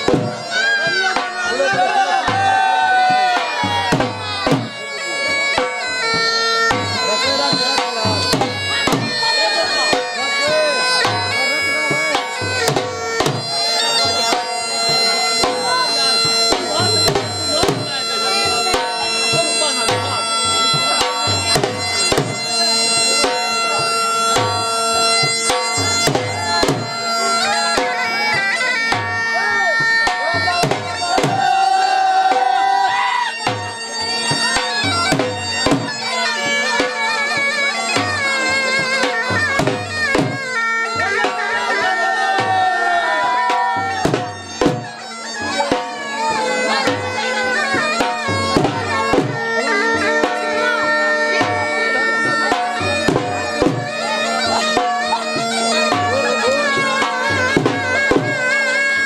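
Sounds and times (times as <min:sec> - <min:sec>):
bagpipes playing folk melody: 0:00.0 - 0:59.0
drum beating rhythm: 0:00.0 - 0:59.0.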